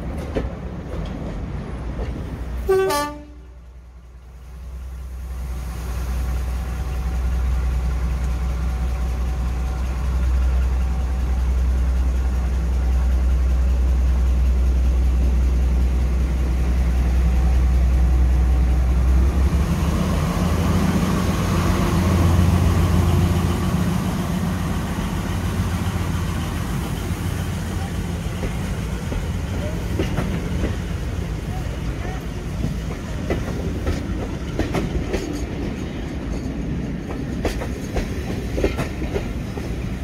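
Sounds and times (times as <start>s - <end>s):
diesel locomotive engine: 0.0s - 40.0s.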